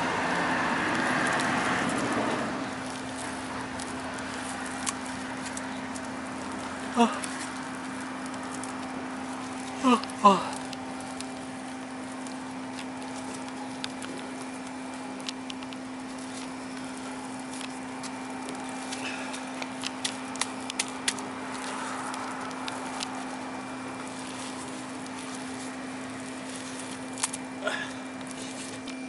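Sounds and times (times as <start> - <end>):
plastic film crinkling: 0.0 - 29.0
steady low hum: 0.0 - 29.0
soft rustle: 0.1 - 29.0.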